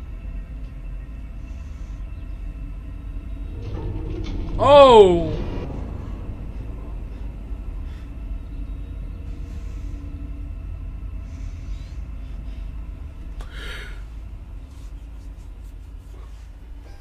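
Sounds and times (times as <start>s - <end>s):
low rumbling drone: 0.0s - 17.0s.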